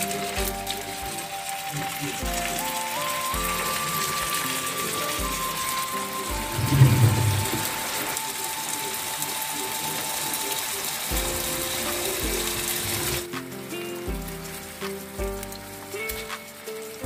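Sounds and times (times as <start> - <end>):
background music with held notes: 0.0 - 17.0
burger patties sizzling in oil: 0.0 - 17.0.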